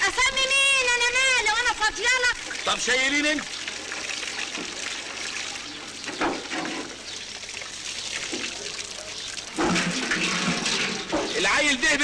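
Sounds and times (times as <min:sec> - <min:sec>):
voices: 0:00.0 - 0:07.4, 0:08.2 - 0:12.0
water running from tap: 0:01.6 - 0:12.0.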